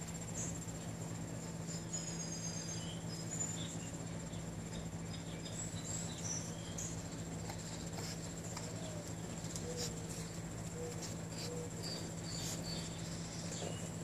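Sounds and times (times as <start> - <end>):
insect trill: 0.0 - 14.0
steady low hum: 0.0 - 14.0.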